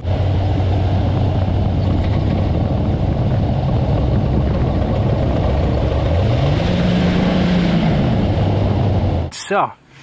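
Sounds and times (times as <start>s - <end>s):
car engine droning: 0.0s - 9.3s
tyres humming on road: 0.0s - 10.0s.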